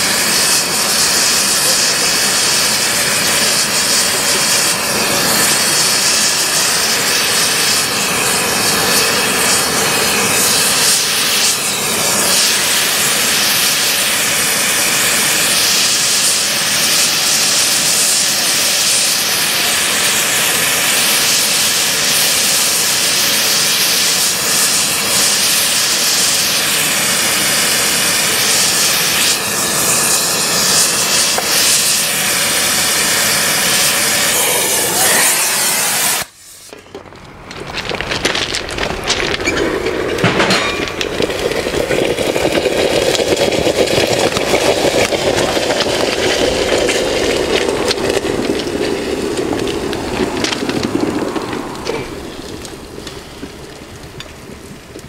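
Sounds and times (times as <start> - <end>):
gas burner hissing: 0.0 - 55.0.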